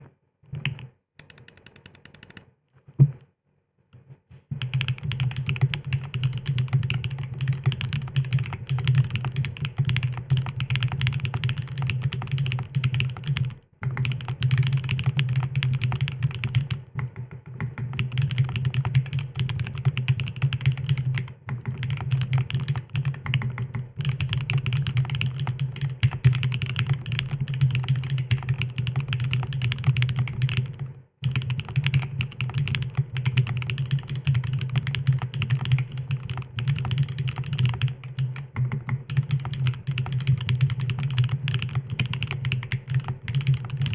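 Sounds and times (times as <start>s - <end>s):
mechanical keyboard typing: 0.6s - 2.5s, 4.6s - 43.9s.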